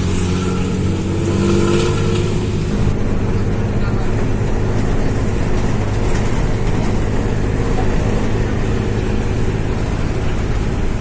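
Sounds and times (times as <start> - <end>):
bus diesel engine drone: 0.0 - 11.0
road and tyre noise: 0.0 - 11.0.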